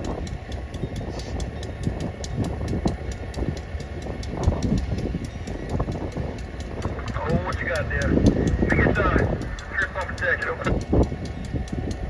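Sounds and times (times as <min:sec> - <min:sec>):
train rumbling slowly: 0:00.0 - 0:12.0.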